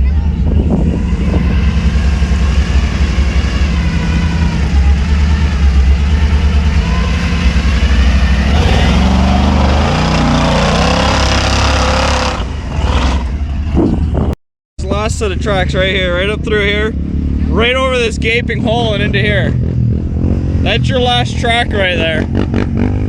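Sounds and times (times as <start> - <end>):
engine working hard: 0.0 - 23.0.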